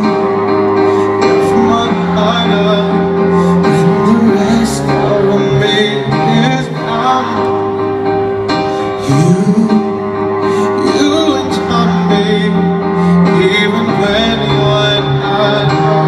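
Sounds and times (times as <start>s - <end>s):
man singing at live concert: 0.0s - 16.0s
sustained instrumental notes: 0.0s - 16.0s.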